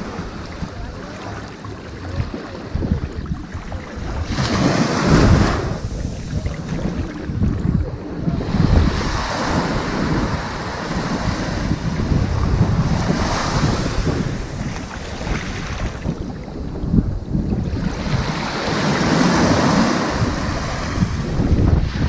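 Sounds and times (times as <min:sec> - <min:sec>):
low rumble of surf: 0:00.0 - 0:22.0
waves breaking on a beach: 0:00.0 - 0:22.0.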